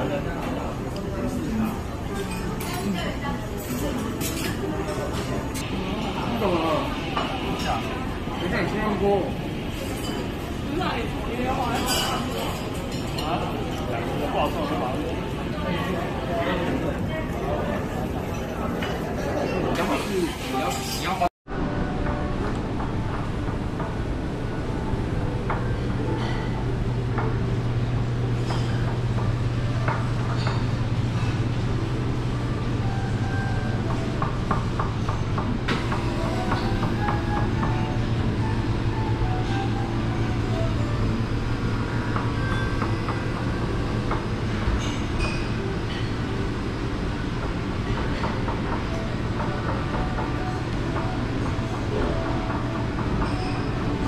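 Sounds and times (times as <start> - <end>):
low restaurant hum: 0.0 - 54.0
dishes and utensils clinking: 0.1 - 8.8, 9.6 - 15.0, 17.9 - 21.3, 25.4 - 31.6, 32.5 - 46.5, 47.4 - 54.0.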